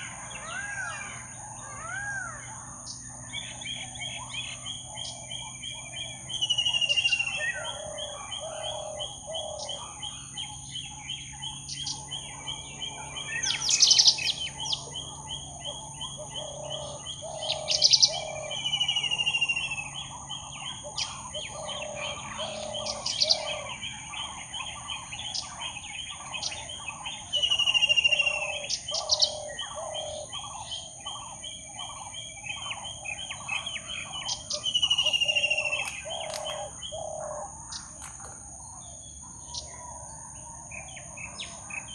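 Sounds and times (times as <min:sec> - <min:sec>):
sharp bird chirps: 0:00.0 - 0:39.9.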